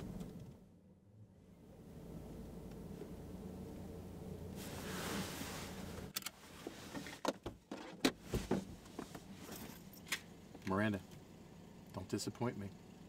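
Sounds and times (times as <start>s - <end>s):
car cabin hum and road noise: 0.0s - 13.0s.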